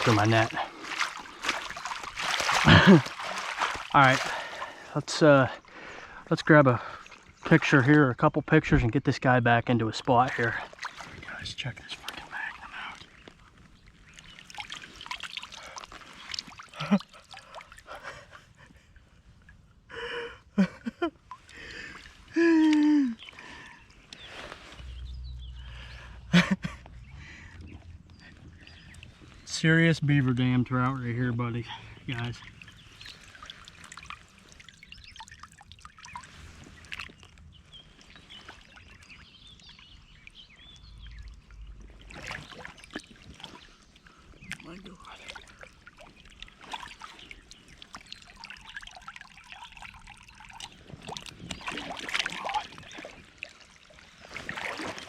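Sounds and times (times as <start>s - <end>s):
water trickling and splashing: 0.0s - 8.6s, 9.2s - 19.7s, 20.6s - 55.0s.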